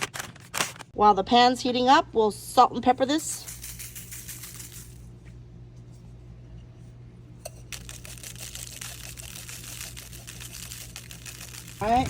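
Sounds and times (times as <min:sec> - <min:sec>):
low steady hum: 0:01.0 - 0:12.0.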